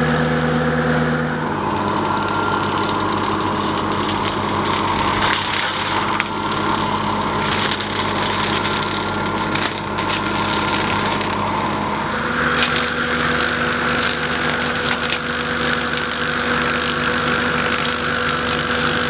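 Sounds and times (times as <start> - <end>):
machine engine running: 0.0 - 19.0
rotary brush mower cutting: 0.0 - 19.0
wood cracking and splintering: 0.0 - 19.0.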